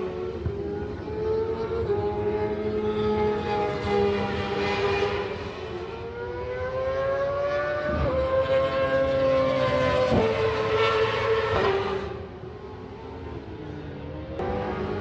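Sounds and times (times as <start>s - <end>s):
motorcycle engine accelerating: 0.0s - 12.2s, 14.4s - 15.0s.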